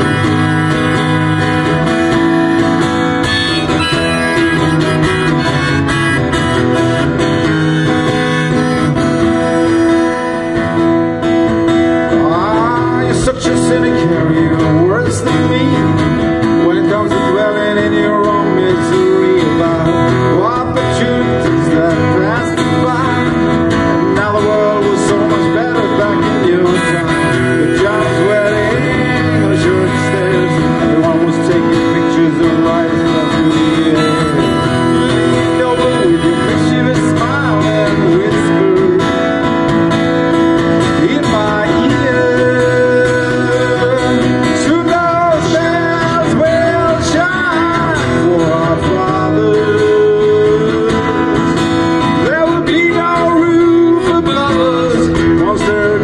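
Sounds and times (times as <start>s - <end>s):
acoustic guitar through speakers: 0.0s - 56.0s
man singing: 0.0s - 56.0s.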